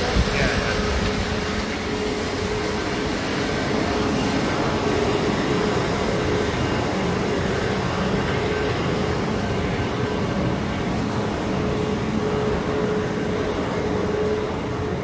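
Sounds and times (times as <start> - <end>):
street noise rumble: 0.0 - 15.0.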